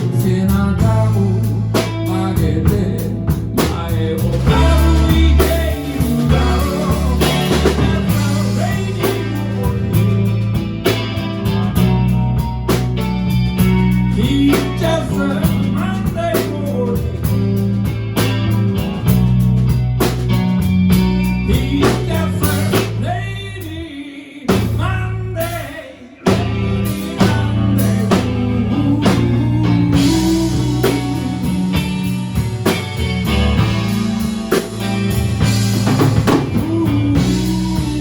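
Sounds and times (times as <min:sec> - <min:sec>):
steady drum beat: 0:00.0 - 0:23.1, 0:26.3 - 0:38.0
bass guitar: 0:00.0 - 0:38.0
guitar lead lines: 0:00.0 - 0:38.0.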